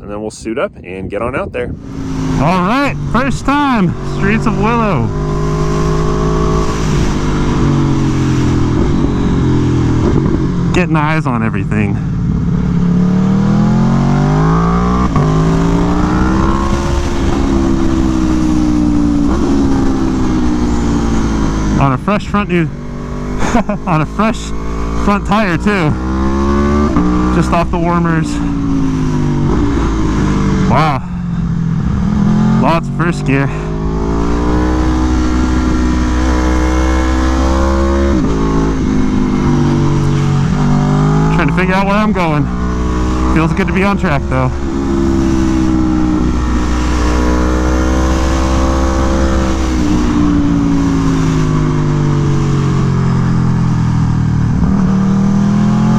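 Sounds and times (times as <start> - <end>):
motorcycle engine revving: 1.7 - 55.9.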